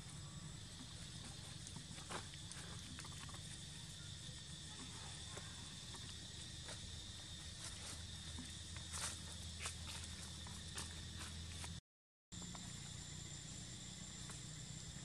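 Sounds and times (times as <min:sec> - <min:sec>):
high insect drone: 0:00.0 - 0:11.8, 0:12.4 - 0:15.0.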